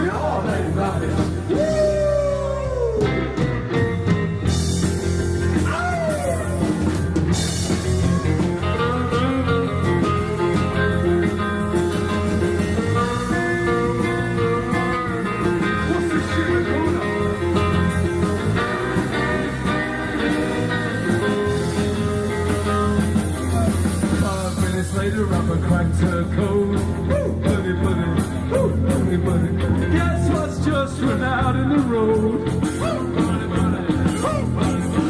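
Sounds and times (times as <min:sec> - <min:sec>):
rock song with guitar and beat: 0:00.0 - 0:35.0.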